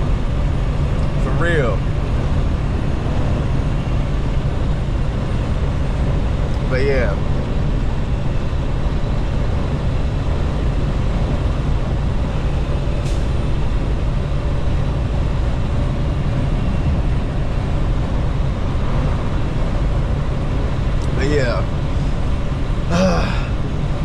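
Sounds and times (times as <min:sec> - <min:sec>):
road noise: 0:00.0 - 0:24.0
truck engine drone: 0:00.0 - 0:24.0.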